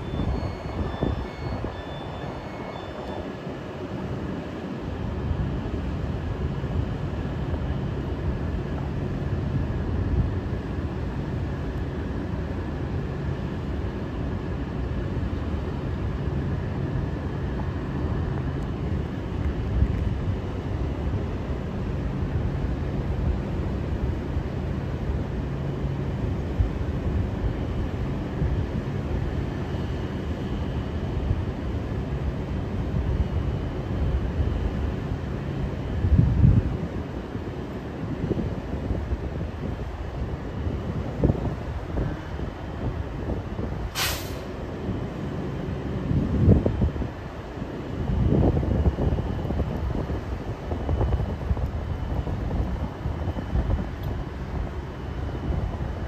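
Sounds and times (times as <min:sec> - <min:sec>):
constant rumble: 0:00.0 - 0:56.0
train equipment humming: 0:00.0 - 0:56.0.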